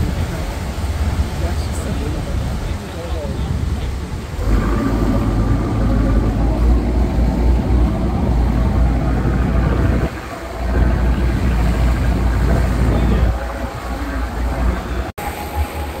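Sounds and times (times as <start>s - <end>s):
boat engine rumbling: 0.0s - 16.0s
wind buffeting microphone: 0.0s - 16.0s.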